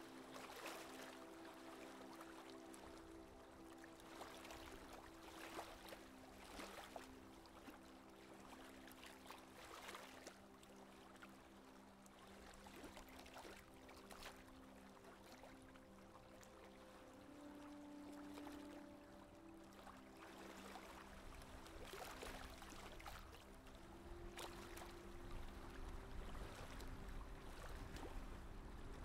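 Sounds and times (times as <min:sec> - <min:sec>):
soft music of held notes: 0:00.0 - 0:29.0
water splashing along hull: 0:00.0 - 0:29.0.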